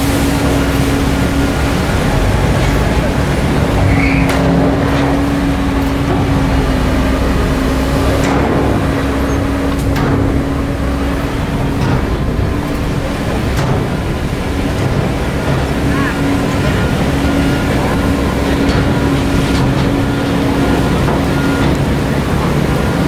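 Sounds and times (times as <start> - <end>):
heavy diesel machinery running: 0.0 - 23.0
machinery knocks: 0.0 - 23.0.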